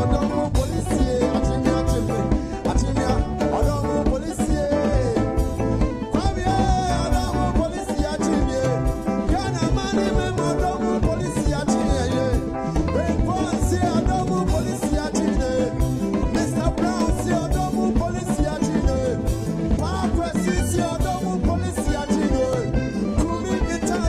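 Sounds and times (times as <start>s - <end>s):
live band playing dance music: 0.0s - 24.0s
man singing into a microphone: 0.0s - 24.0s.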